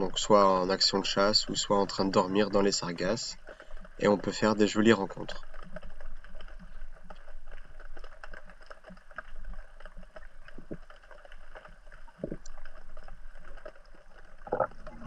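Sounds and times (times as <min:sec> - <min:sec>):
faint crackling clicks: 0:00.0 - 0:15.0
low underwater hum: 0:00.0 - 0:15.0.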